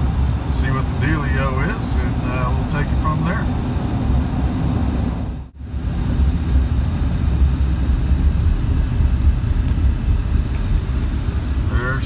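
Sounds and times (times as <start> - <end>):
engine and tire rumble: 0.0 - 12.0.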